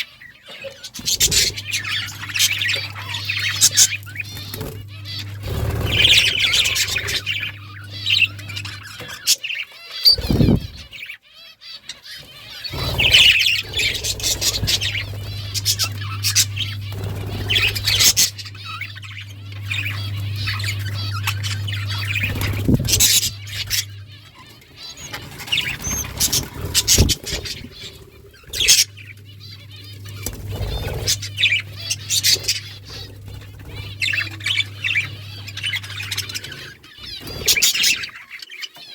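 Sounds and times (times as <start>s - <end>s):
steady low hum: 0.0s - 11.1s, 12.2s - 38.2s
budgerigars chirping: 0.0s - 38.9s.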